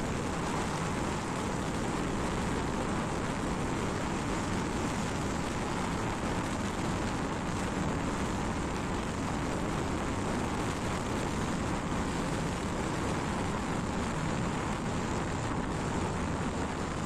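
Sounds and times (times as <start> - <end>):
vehicle road and wind noise: 0.0 - 17.0.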